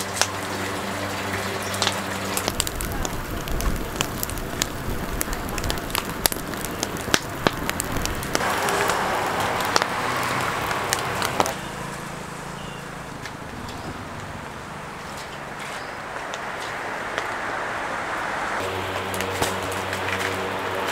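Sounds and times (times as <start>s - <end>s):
fire hissing: 0.0s - 20.9s
husks crackling as they burn: 0.0s - 20.9s.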